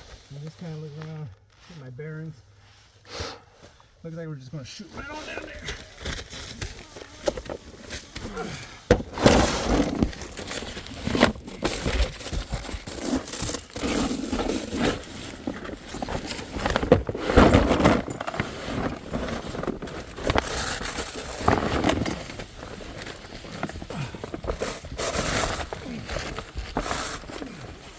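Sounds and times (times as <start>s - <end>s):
scraping and crinkling of crawling: 0.0s - 3.0s, 3.6s - 27.9s.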